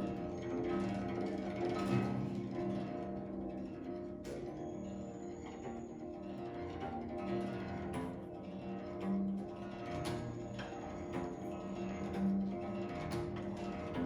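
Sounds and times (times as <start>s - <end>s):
plucked zither notes: 0.0s - 14.0s.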